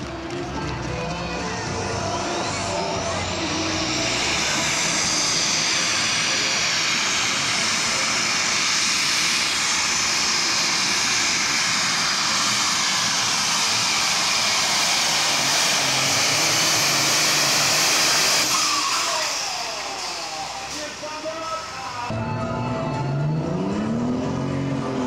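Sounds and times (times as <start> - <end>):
diesel engine howling under load: 0.0 - 25.0.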